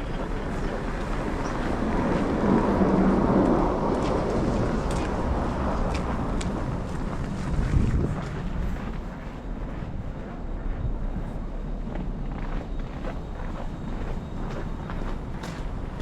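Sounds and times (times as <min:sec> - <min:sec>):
city street traffic: 0:00.0 - 0:16.0
wind rushing over microphone: 0:00.0 - 0:16.0.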